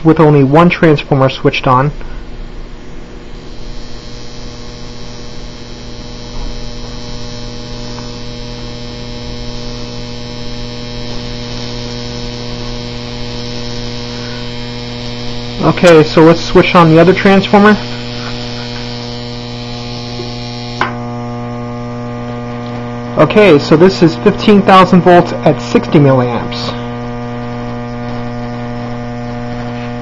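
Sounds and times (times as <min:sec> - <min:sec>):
electric arc buzzing and hissing: 0:01.8 - 0:30.0.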